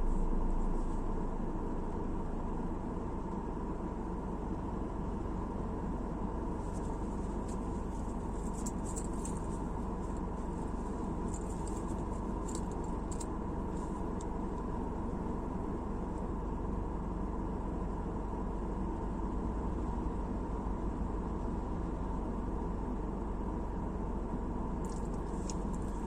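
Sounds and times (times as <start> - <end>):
car cabin road noise: 0.0 - 26.0.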